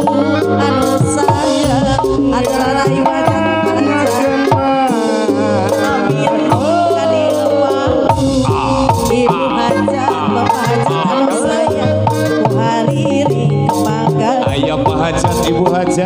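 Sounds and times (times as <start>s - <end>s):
electronic keyboard melody: 0.0s - 16.0s
hand drums beating: 0.0s - 16.0s.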